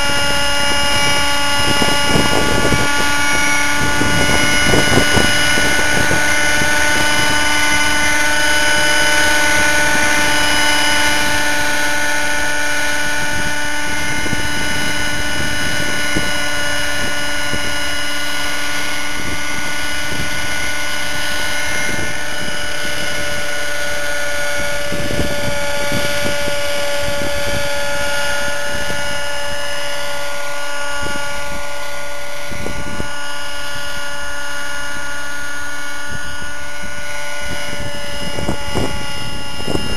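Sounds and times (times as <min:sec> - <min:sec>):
helicopter rotor noise: 0:00.0 - 0:39.9
model engine whining: 0:00.0 - 0:39.9.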